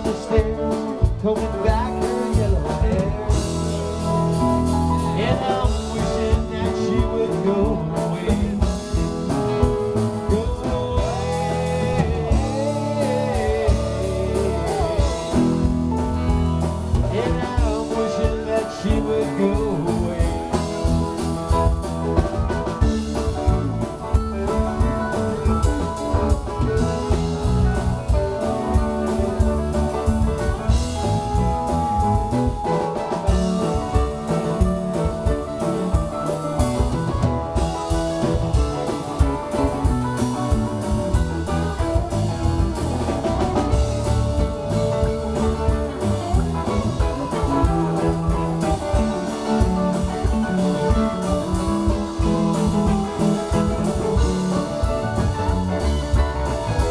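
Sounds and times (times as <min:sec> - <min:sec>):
drum kit: 0:00.0 - 0:56.9
electric bass: 0:00.0 - 0:56.9
electric guitar: 0:00.0 - 0:56.9
keyboards: 0:00.0 - 0:56.9.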